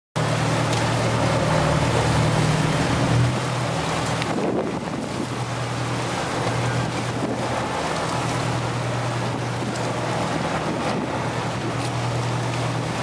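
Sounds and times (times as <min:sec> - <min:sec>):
motor boat engine droning: 0:00.2 - 0:13.0
water rushing past hull: 0:00.2 - 0:13.0
wind buffeting microphone: 0:01.0 - 0:13.0.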